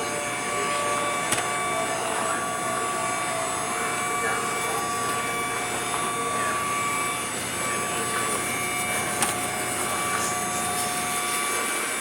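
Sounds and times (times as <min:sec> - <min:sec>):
robot vacuum running: 0:00.0 - 0:12.0.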